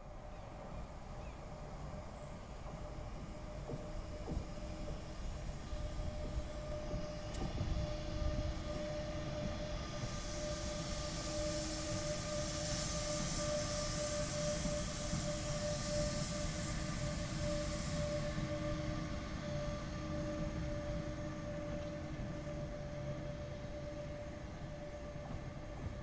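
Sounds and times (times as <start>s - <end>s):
train running: 0.0s - 26.0s
hiss: 0.1s - 26.0s.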